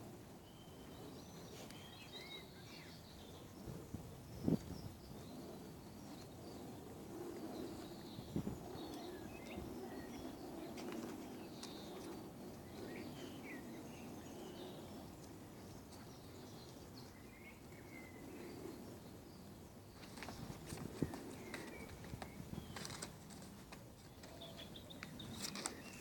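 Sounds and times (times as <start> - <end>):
outdoor background noise: 0.0 - 26.0
small birds chirping: 0.4 - 26.0.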